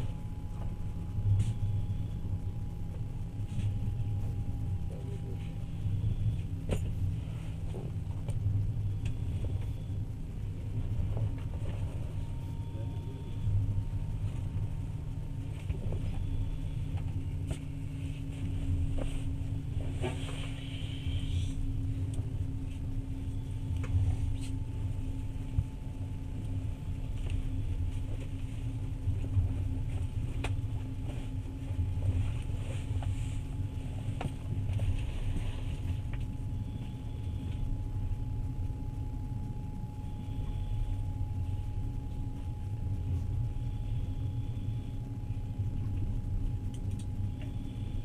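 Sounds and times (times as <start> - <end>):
train rumbling inside carriage: 0.0 - 48.0.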